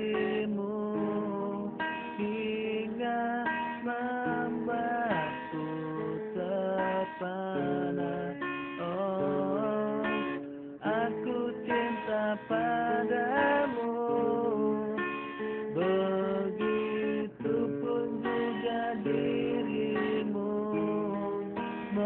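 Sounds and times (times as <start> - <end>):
person singing: 0.0 - 22.0
strummed acoustic guitar: 0.0 - 22.0.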